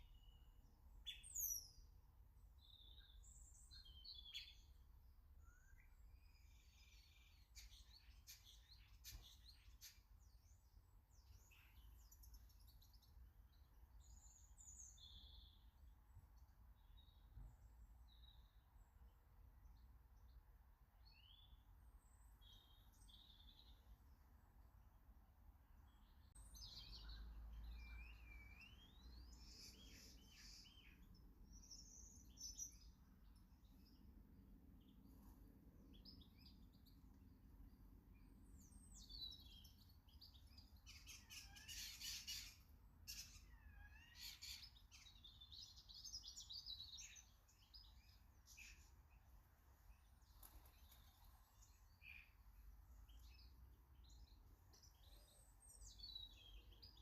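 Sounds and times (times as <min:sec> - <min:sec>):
small birds chirping: 0:00.0 - 0:24.9, 0:25.6 - 0:57.0.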